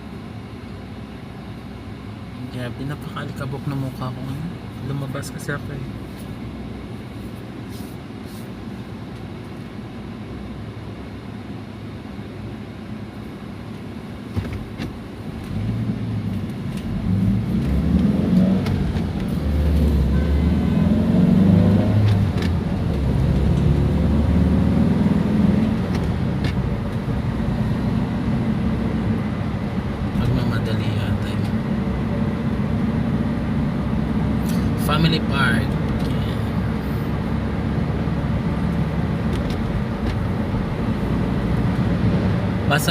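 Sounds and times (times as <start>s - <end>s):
car engine: 0.0s - 42.9s
road noise: 0.0s - 42.9s.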